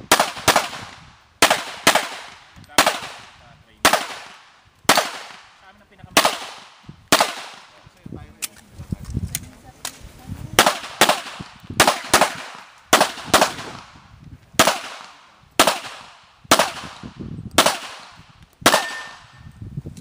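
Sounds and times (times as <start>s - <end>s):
pistol shots: 0.0s - 7.8s, 10.6s - 14.0s, 14.6s - 19.4s.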